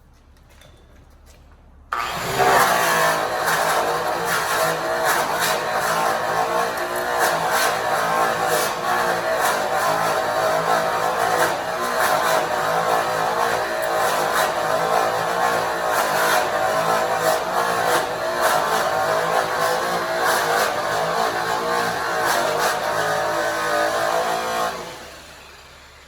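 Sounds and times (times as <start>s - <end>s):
angle grinder motor whine: 1.9s - 26.0s.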